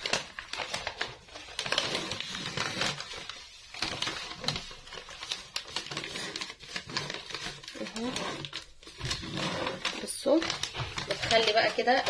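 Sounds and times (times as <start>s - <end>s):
sticker sheet crinkling and peeling: 0.0s - 12.0s.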